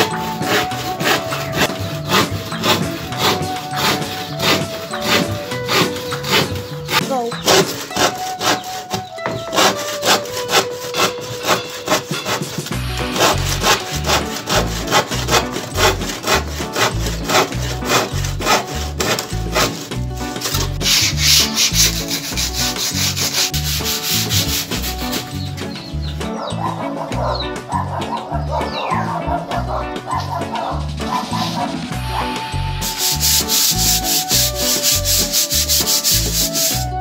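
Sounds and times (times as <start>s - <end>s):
hand saw cutting plywood: 0.0s - 25.5s, 32.8s - 37.0s.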